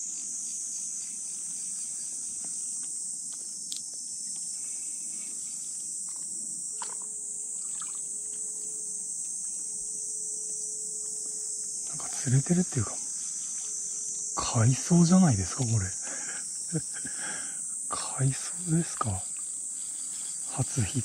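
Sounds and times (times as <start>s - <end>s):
faint steady hum: 0.0s - 21.0s
insects shrilling: 0.0s - 21.0s.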